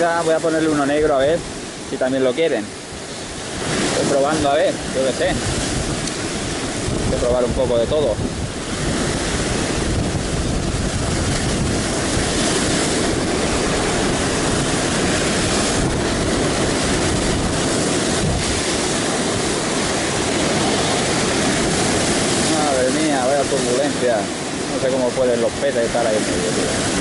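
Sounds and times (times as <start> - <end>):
heavy surf breaking on rocks: 0.0 - 27.0.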